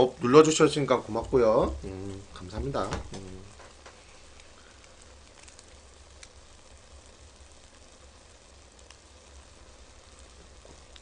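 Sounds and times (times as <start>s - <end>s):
noodles sizzling in a pot: 0.0s - 11.0s.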